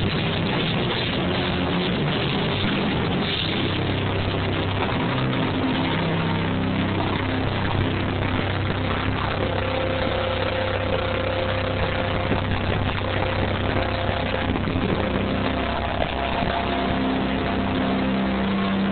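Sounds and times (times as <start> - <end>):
held bass and guitar notes: 0.0 - 18.9.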